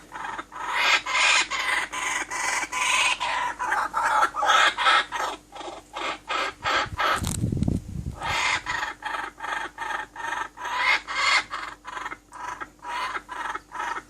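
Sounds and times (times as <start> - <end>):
bird calling with raspy notes: 0.0 - 7.3, 8.2 - 14.0.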